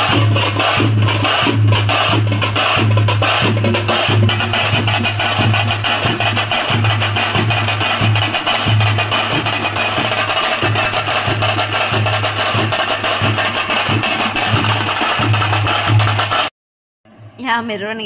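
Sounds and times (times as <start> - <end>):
pulsing low bass: 0.0 - 16.2
fast drumbeats: 0.0 - 16.5.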